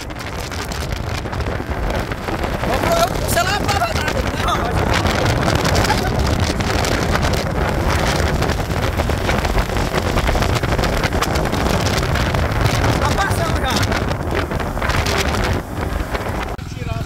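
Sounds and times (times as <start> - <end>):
low vehicle rumble: 0.0 - 17.0
wind buffeting microphone: 0.0 - 17.0.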